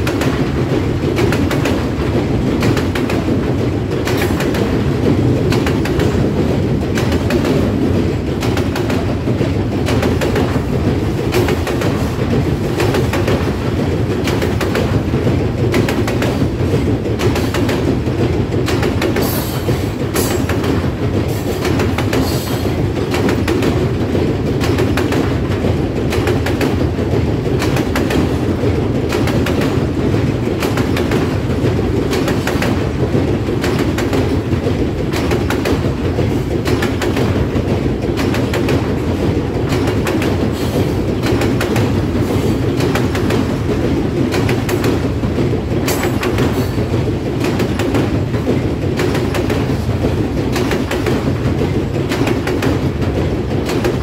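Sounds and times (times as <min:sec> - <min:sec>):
freight train rumbling over bridge: 0:00.0 - 0:54.0
wheels clacking over rail joints: 0:00.0 - 0:54.0.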